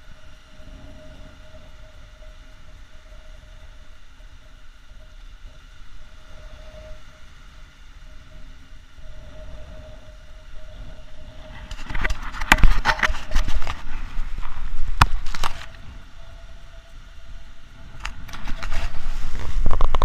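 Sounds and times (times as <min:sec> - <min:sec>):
faint continuous hum: 0:00.0 - 0:20.0.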